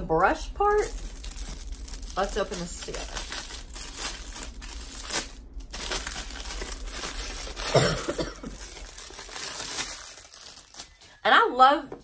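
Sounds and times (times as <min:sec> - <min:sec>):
plastic wrap crinkling and tearing: 0:00.3 - 0:11.2.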